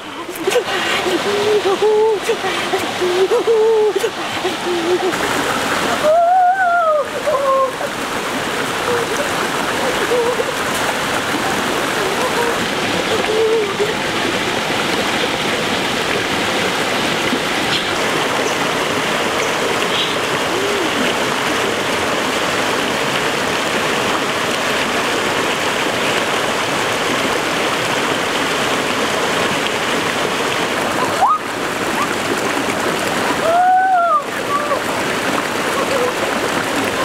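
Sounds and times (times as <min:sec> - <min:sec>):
water rushing over rocks: 0:00.0 - 0:37.0.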